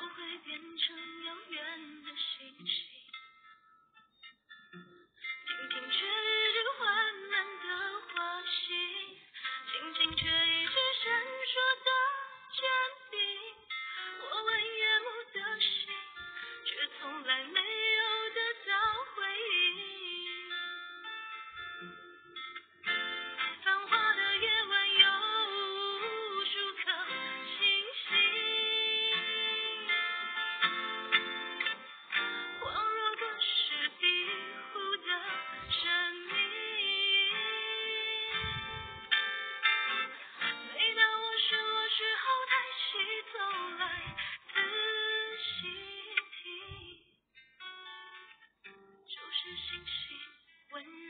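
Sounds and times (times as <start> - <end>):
woman singing: 0.0 - 3.2, 5.4 - 20.8, 23.3 - 30.5, 32.4 - 39.2, 40.1 - 47.2, 49.1 - 51.0
guitar backing track: 0.0 - 51.0.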